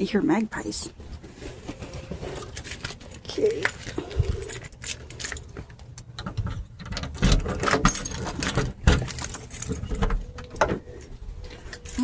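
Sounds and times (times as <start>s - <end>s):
handling knocks and rustles: 1.0s - 12.0s.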